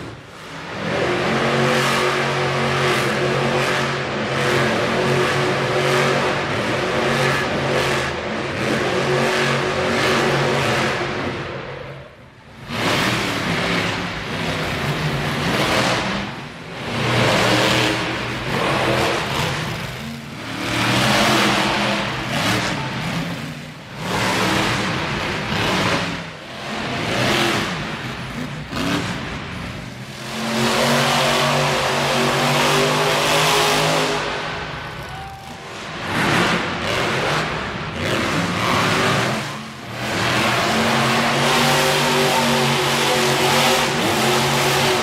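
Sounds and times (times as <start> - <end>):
monster truck engine revving: 0.0 - 45.0.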